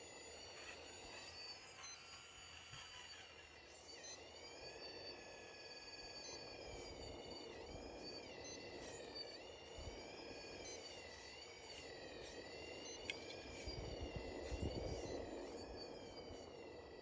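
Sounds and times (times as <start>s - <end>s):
high-pitched electric drive whine: 0.0s - 17.0s.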